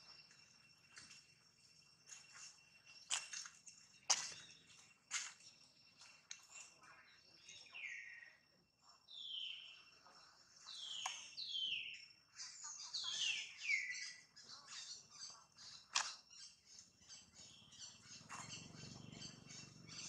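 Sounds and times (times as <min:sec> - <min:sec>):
faint high insect tones: 0:00.0 - 0:20.0.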